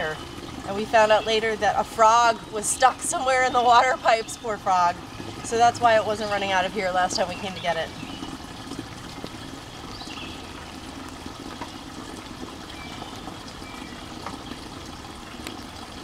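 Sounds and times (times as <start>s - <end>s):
water trickling into plastic jug: 0.0s - 16.0s.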